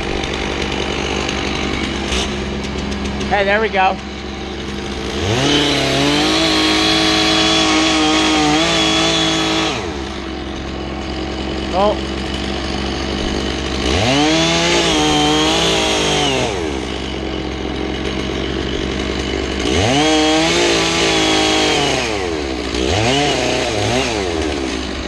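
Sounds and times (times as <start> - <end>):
chainsaw idling and revving: 0.0 - 25.0.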